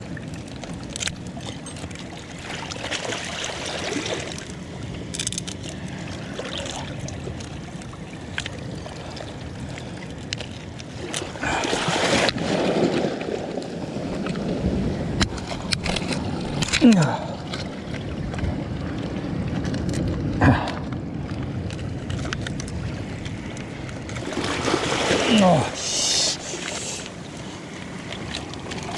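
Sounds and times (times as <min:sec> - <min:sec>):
sea water sloshing: 0:00.0 - 0:28.9.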